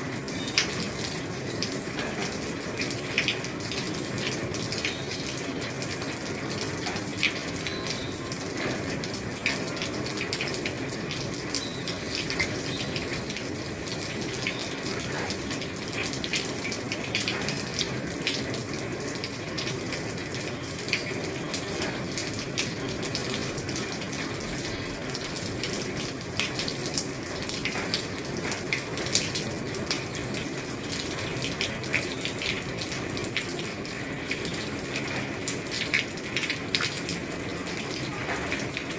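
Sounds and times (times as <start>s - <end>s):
heavy rain drumming on a roof: 0.0s - 38.9s.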